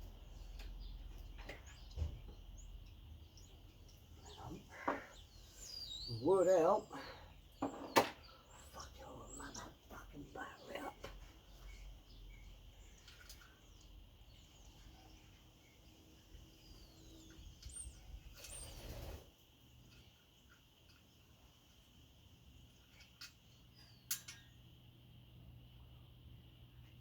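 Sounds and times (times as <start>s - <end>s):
faint bird chirps: 0.1s - 24.9s.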